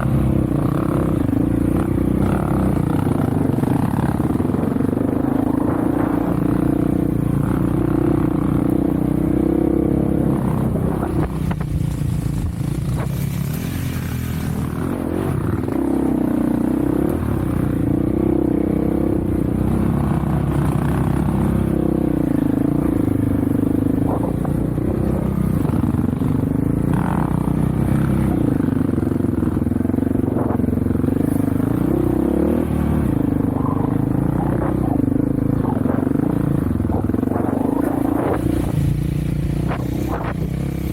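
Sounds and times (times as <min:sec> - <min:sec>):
off-road vehicle engine: 0:00.0 - 0:40.9.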